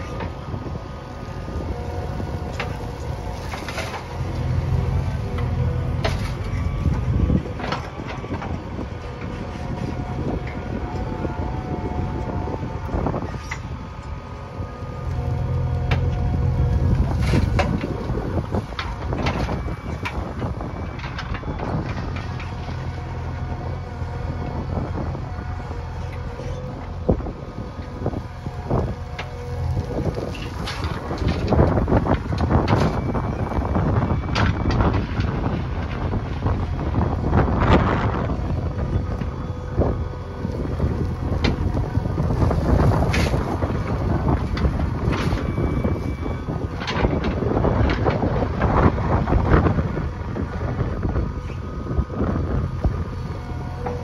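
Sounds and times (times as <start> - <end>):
diesel engine running: 0.0 - 54.0
wind on microphone: 0.0 - 54.0.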